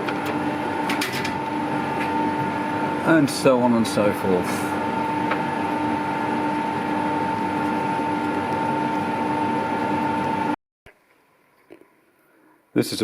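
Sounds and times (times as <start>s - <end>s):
lathe running with whine: 0.0s - 10.6s.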